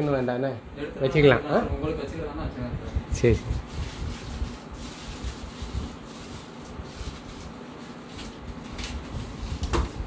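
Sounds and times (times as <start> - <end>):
air conditioner blowing air: 0.0 - 10.0.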